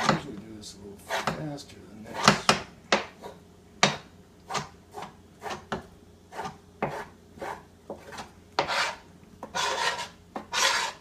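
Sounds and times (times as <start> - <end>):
knife scraping dough off board: 1.0 - 1.4, 2.1 - 11.0.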